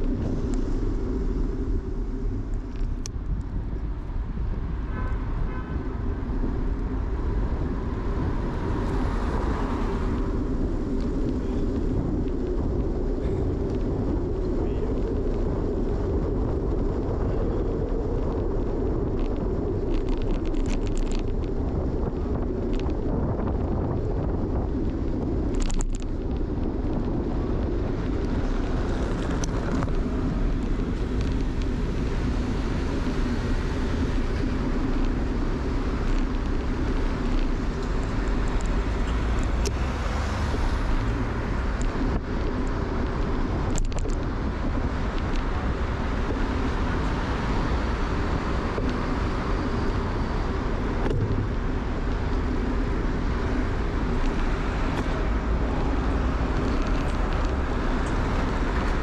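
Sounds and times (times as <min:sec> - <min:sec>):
cars passing: 0:00.0 - 0:59.0
wind and road noise: 0:00.0 - 0:59.0.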